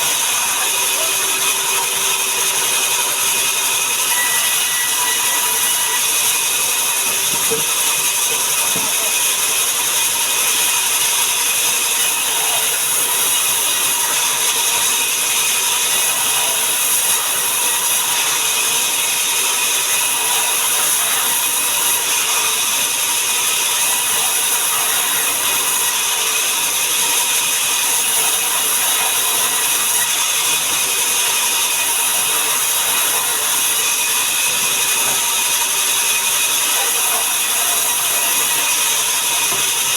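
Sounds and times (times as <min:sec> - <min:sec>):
sawmill machinery with high whine: 0:00.0 - 0:39.9.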